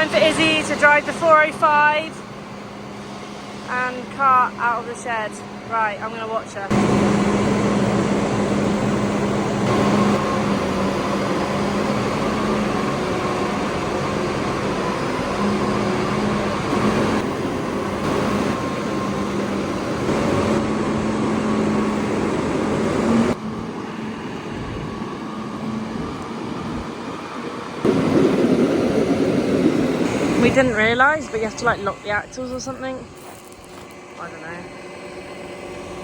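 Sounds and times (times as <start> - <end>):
tractor diesel engine drone: 0.0 - 36.0.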